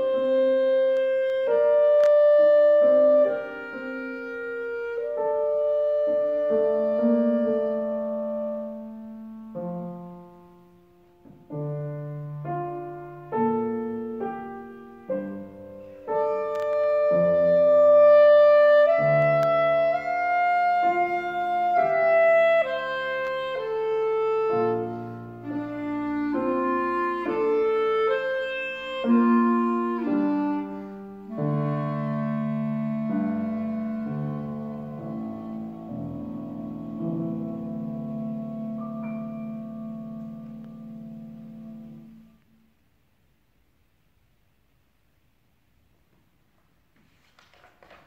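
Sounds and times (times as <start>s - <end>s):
piano accompaniment: 0.0s - 42.6s
clarinet melody: 0.0s - 42.8s.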